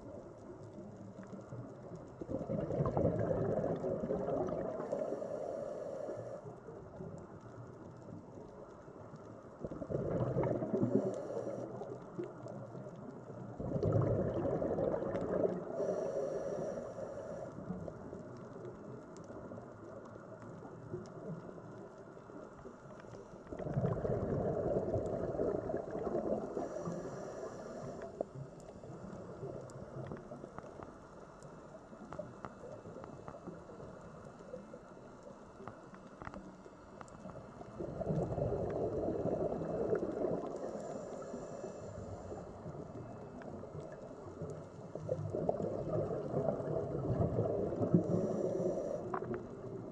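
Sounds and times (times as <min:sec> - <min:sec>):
faint crackle of clicks: 0:00.0 - 0:49.9
underwater bubbles rushing: 0:00.0 - 0:49.9.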